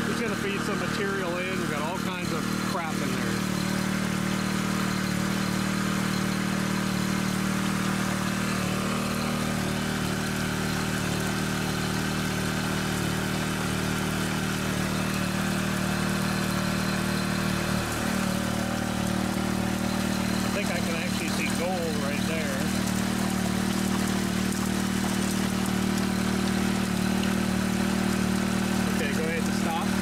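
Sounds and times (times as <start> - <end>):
water pump engine running: 0.0 - 30.0
water rushing: 0.0 - 30.0.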